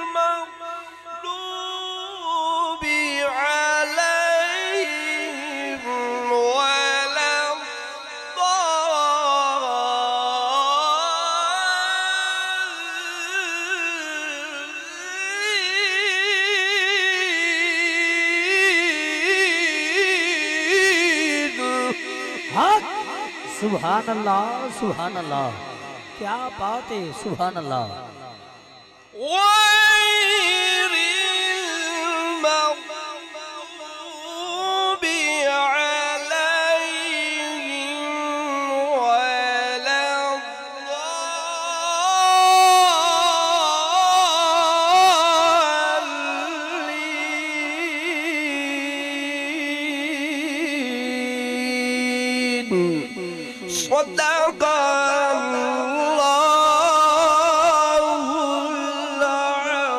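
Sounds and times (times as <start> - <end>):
man reciting melodically into microphone: 0.0 - 59.9.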